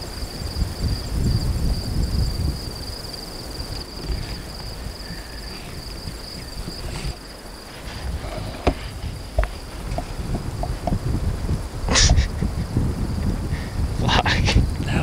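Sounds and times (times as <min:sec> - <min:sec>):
insect trilling: 0:00.0 - 0:12.5
wind rumble on microphone: 0:00.0 - 0:15.0.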